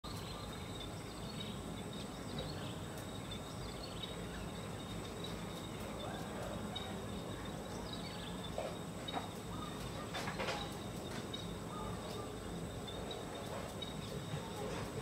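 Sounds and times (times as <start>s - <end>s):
faint bird chirps: 0.0s - 15.0s
thin steady high tone: 0.0s - 15.0s.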